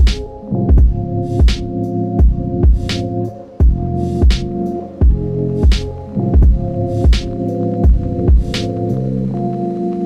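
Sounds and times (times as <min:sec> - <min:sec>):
instrumental music with drum beat: 0:00.0 - 0:09.0.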